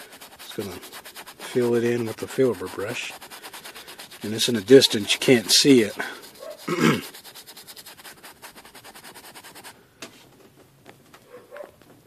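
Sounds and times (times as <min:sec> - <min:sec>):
brush scrubbing paint on canvas: 0:00.0 - 0:09.8.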